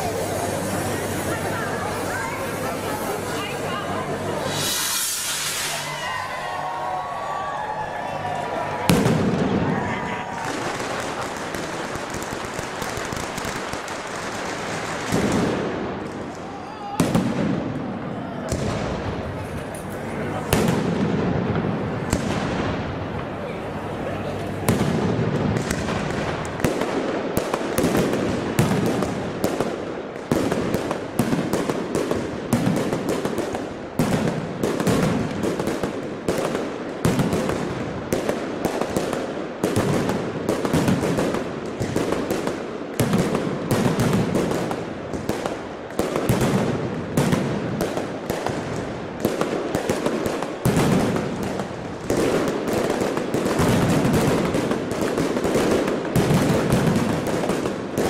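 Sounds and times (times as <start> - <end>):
heavy firecracker bangs: 0.0 - 6.8, 8.7 - 23.4, 24.6 - 58.0
firecrackers crackling: 0.0 - 58.0.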